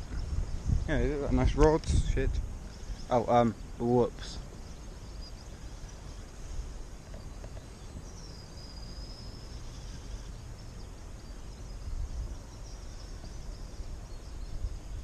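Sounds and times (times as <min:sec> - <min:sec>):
wind rumble on microphone: 0:00.0 - 0:15.0
faint high bird calls: 0:02.5 - 0:15.0.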